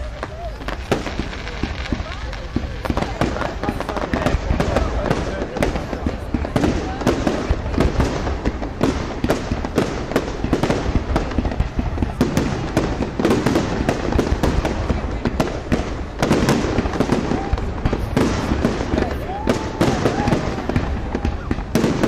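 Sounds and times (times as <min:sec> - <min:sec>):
firework whistling tones: 0:00.0 - 0:22.0.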